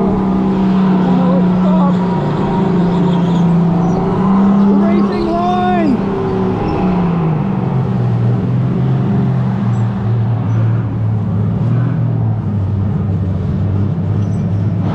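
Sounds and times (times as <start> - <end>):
electric go-kart hum: 0.0 - 14.9.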